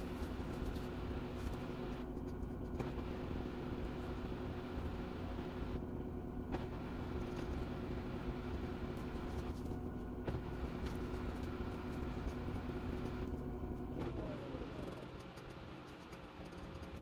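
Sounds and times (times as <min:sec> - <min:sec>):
washing machine running: 0:00.0 - 0:17.0.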